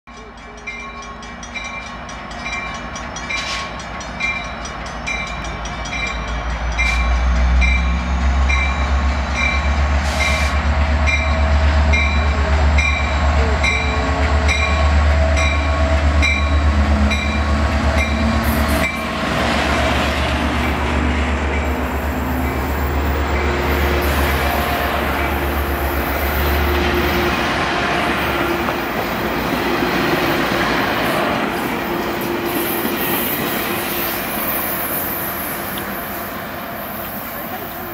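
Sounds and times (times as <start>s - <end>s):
diesel locomotive engine rumble: 0.1s - 37.9s
train wheels clattering on rails: 0.2s - 24.4s, 25.1s - 36.0s.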